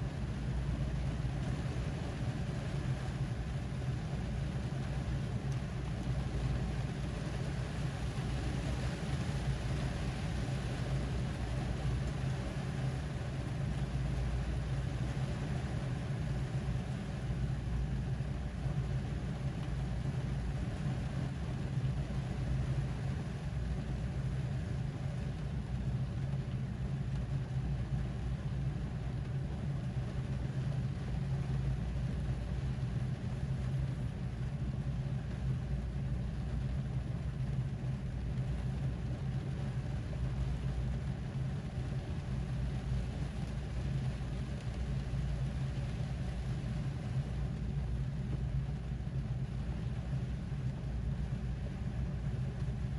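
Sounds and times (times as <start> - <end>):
constant low hum: 0.0 - 52.9
rain falling on a car: 0.0 - 52.9.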